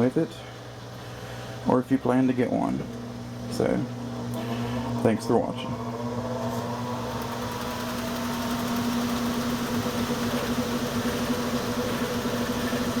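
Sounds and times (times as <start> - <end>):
washing machine motor humming: 1.6 - 13.0.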